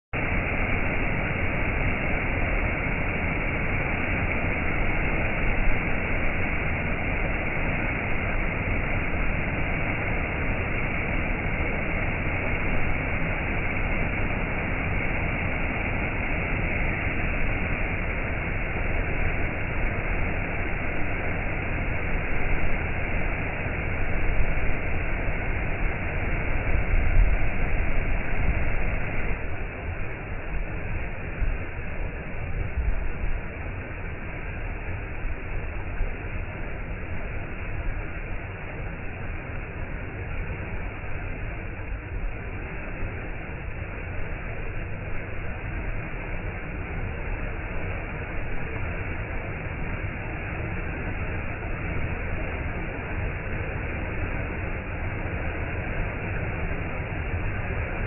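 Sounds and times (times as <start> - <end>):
stream water rushing: 0.2 - 58.0.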